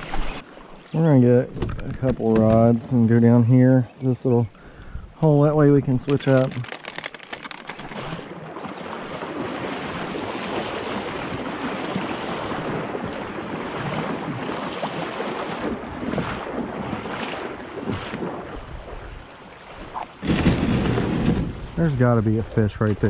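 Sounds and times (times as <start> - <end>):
water splashing: 0.0 - 2.8, 5.2 - 23.0.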